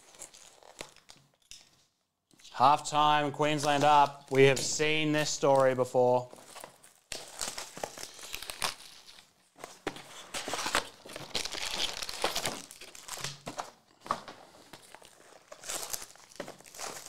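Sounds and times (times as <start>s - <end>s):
foil and card crinkling: 0.0s - 1.4s, 3.4s - 17.0s.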